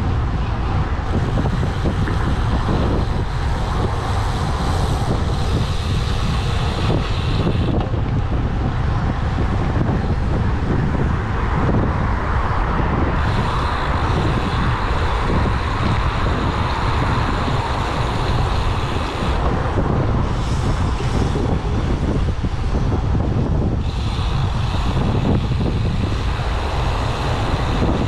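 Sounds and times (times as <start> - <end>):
wind buffeting the microphone: 0.0 - 28.0.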